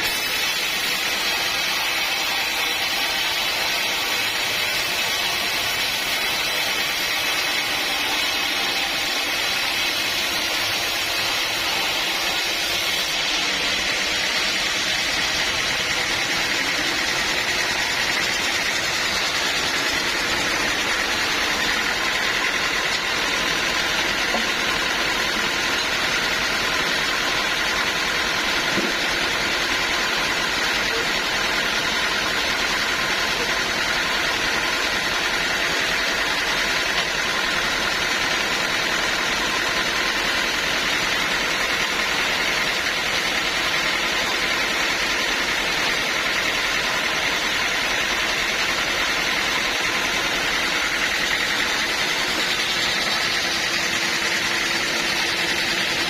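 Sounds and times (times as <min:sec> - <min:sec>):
band sawmill drone: 0:00.0 - 0:56.0.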